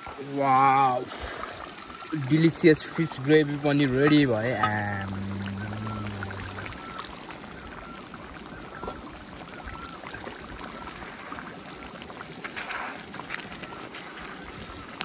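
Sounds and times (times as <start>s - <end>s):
stream running: 0.0s - 15.0s.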